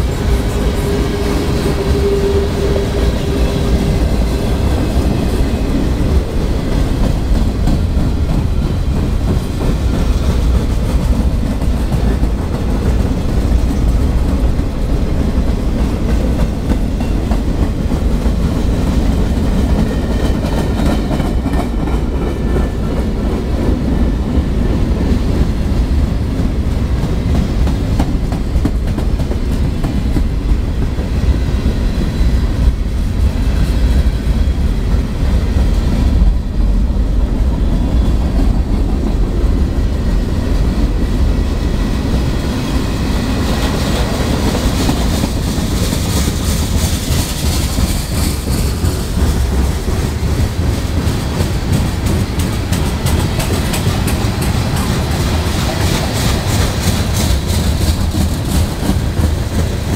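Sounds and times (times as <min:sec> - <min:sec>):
freight train wheels on rails: 0:00.0 - 0:59.9
wind buffeting microphone: 0:00.0 - 0:59.9.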